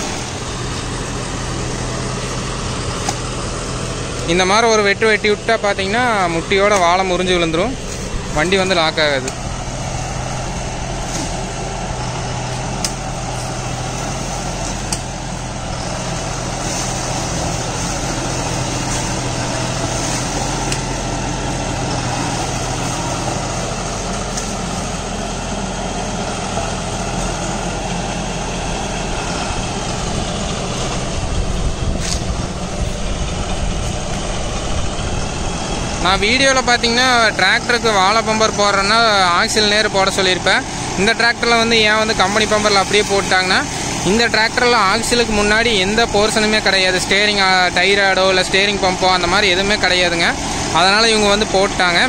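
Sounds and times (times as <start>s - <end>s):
tractor engine under load: 0.0s - 52.0s
rotary tiller mulching: 5.7s - 52.0s.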